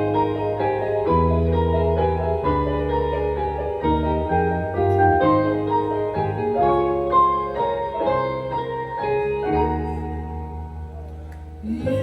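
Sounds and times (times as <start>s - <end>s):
low bass line: 0.0s - 12.0s.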